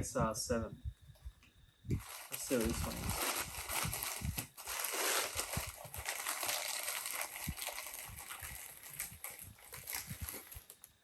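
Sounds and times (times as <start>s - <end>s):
wrapping crinkling and rustling: 1.9s - 11.0s.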